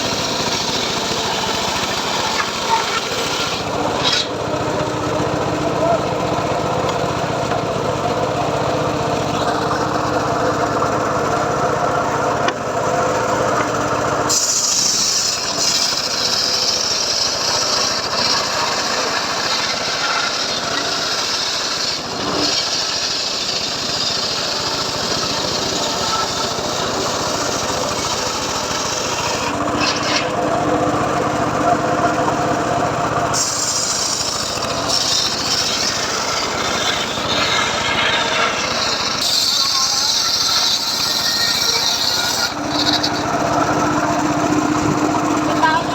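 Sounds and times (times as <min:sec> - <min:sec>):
circular saw motor hum: 0:00.0 - 0:45.9
saw blade cutting log: 0:00.0 - 0:45.9.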